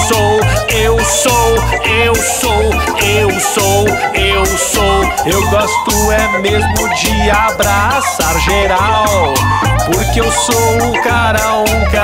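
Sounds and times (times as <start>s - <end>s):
high percussion beat: 0.0s - 12.0s
song with bass and beat: 0.0s - 12.0s.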